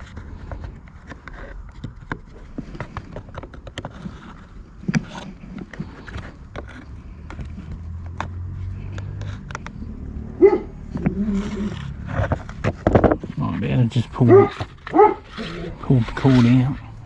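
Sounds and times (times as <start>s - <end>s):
objects clicking and knocking: 0.0s - 10.1s, 10.8s - 17.0s.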